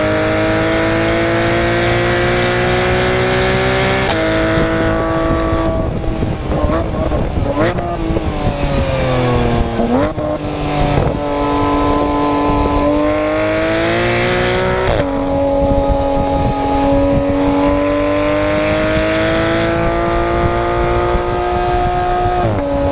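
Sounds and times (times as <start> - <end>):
sports car exhaust revving: 0.0 - 22.9.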